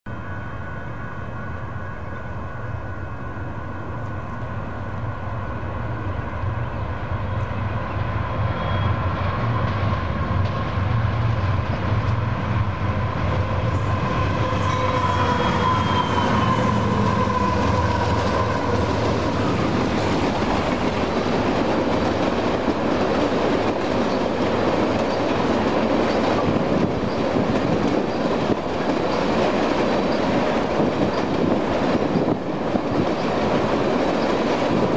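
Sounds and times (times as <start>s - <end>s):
diesel locomotives rumbling: 0.1s - 34.9s.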